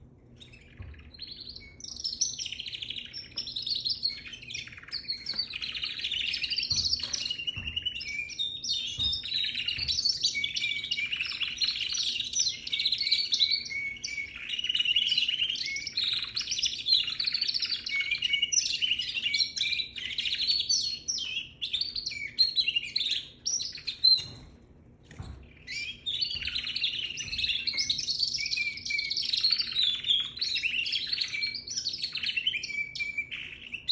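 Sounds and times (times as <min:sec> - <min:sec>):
canary singing warbling song: 0:00.0 - 0:33.9.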